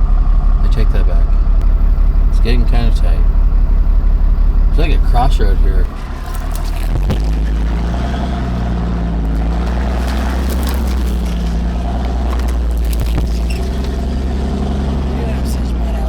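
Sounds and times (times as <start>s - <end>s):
diesel engine low drone: 0.0s - 16.0s.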